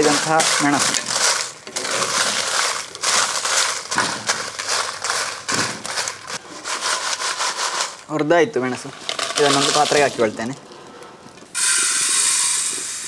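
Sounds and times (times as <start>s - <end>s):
chillies crackling: 0.0s - 11.5s.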